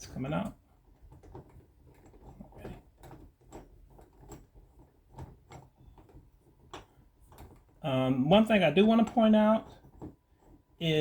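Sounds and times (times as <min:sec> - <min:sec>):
doorknob hardware clicking and scraping: 0:00.0 - 0:10.8.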